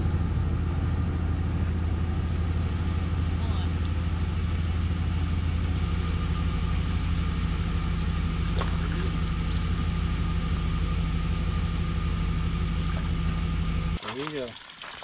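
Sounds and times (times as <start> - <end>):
engine droning: 0.0 - 14.5.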